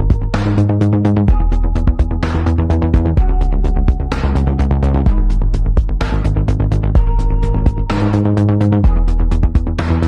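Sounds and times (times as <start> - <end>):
dark electronic music: 0.0 - 10.0
deep bass tones: 0.0 - 10.0.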